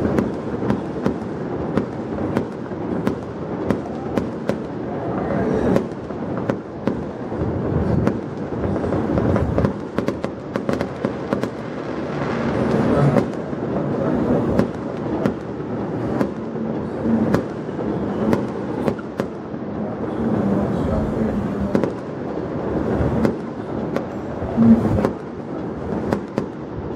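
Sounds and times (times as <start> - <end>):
fireworks bangs and cracks: 0.0 - 26.9.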